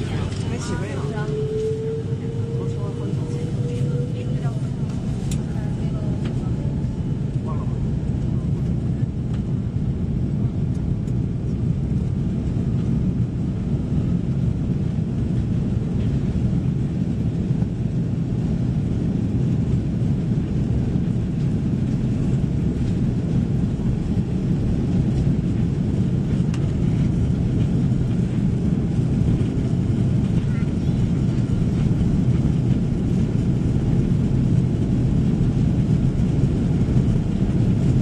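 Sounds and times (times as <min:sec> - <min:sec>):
airplane cabin rumble taxiing: 0:00.0 - 0:38.0.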